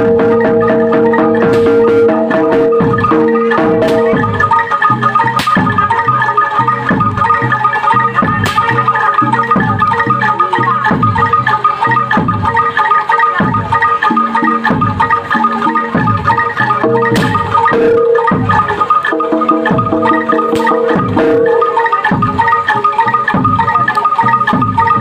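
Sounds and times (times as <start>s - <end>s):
metal mallet instruments ringing: 0.0s - 25.0s.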